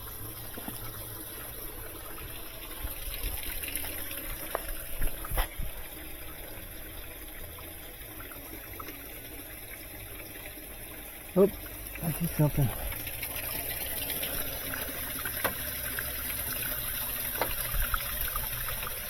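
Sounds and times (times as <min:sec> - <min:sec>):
water running into tub: 0:00.0 - 0:19.0.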